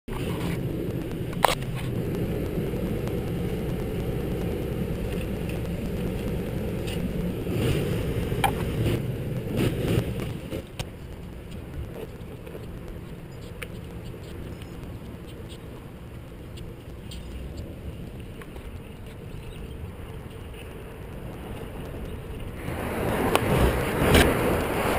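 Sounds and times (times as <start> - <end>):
bicycle riding rumble: 0.1 - 24.9.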